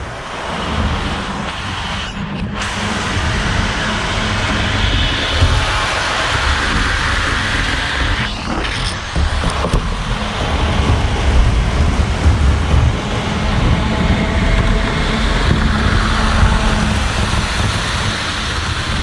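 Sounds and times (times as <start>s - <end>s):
model train rumbling on track: 0.0s - 19.0s.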